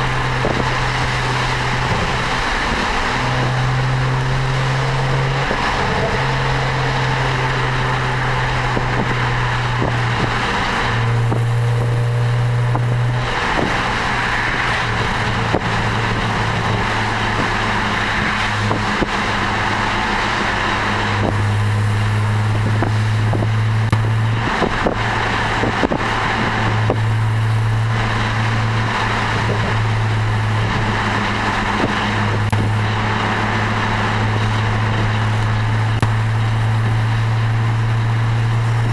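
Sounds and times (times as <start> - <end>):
car engine droning: 0.0 - 38.9
wind and road noise: 0.0 - 38.9.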